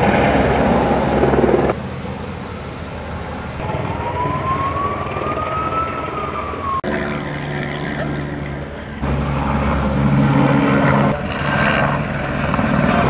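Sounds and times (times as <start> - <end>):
siren wailing: 0.0 - 8.3, 9.0 - 11.9
helicopter rotor and engine: 0.0 - 13.0.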